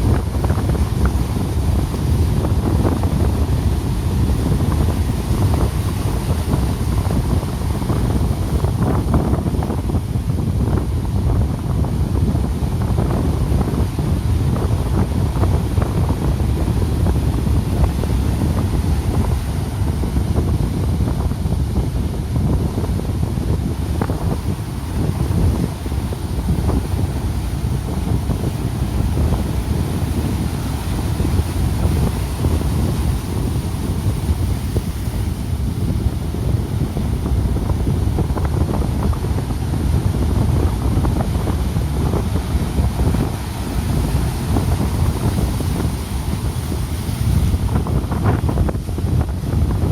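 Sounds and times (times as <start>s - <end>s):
low rumble of heavy surf: 0.0s - 49.9s
storm wind buffeting microphone: 0.0s - 49.9s.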